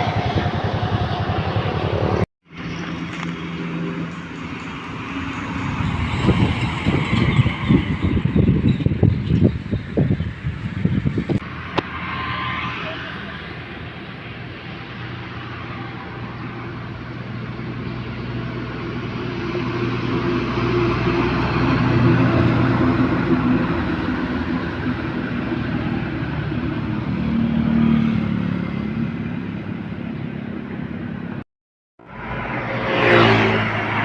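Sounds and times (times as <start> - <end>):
large vehicles passing close: 0.0 - 31.4, 32.0 - 34.0.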